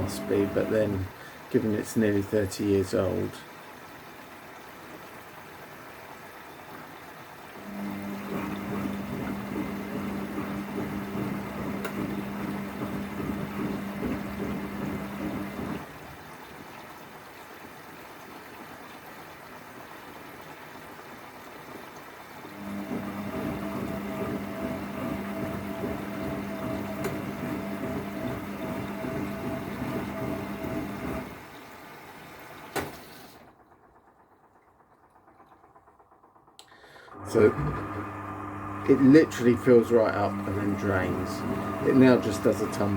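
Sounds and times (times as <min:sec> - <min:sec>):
water rushing: 0:00.0 - 0:33.5, 0:37.1 - 0:42.9
washing machine electric hum: 0:00.0 - 0:42.9.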